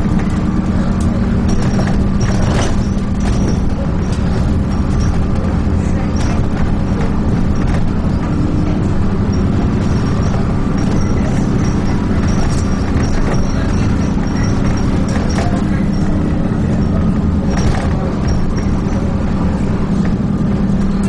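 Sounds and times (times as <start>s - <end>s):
body knocks and rattles: 0.0s - 21.0s
bus diesel engine running: 0.0s - 21.0s.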